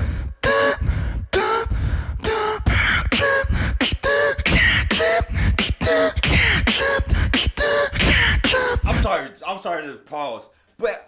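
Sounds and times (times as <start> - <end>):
beatboxing: 0.0 - 9.2.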